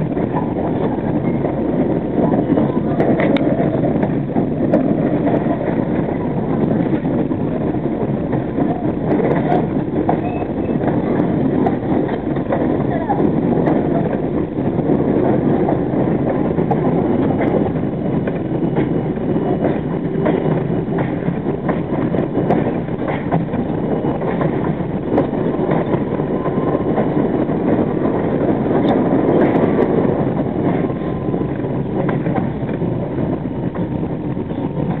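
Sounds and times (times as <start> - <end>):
track joints clicking and clanking: 0.0 - 35.0
train wheels rumbling on rail: 0.0 - 35.0.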